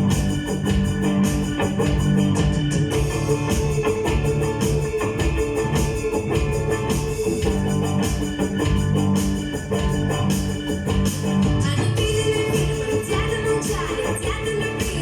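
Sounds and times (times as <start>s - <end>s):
drum kit steady beat: 0.0s - 15.0s
electric guitar: 0.0s - 15.0s.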